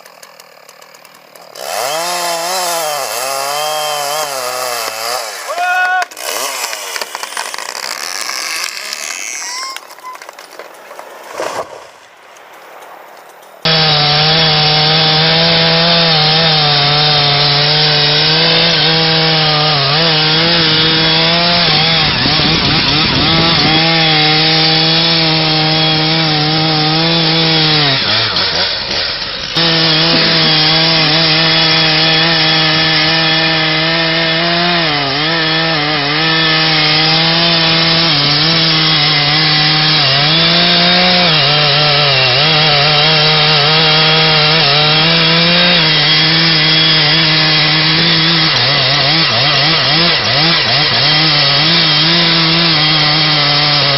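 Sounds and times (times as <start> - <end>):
chainsaw cutting into tree: 0.0 - 53.9.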